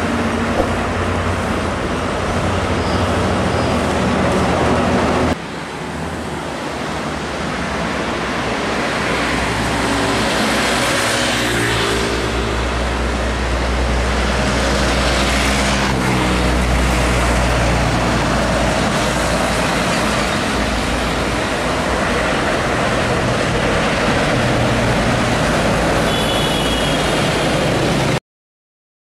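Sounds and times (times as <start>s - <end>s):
tyre and traffic noise: 0.0s - 28.2s.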